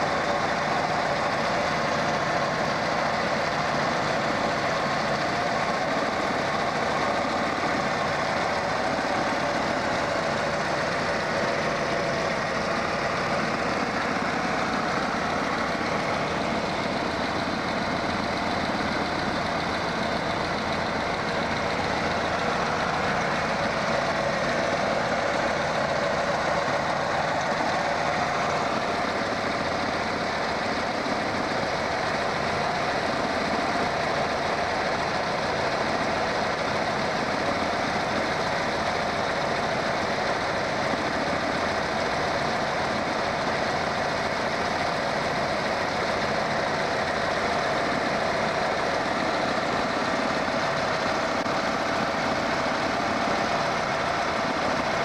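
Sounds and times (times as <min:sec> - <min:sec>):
car engine running steadily: 0:00.0 - 0:55.0.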